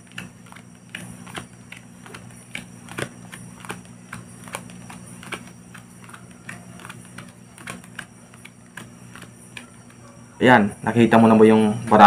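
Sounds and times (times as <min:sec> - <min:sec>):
playing cards clicking on mat: 0:00.0 - 0:10.2.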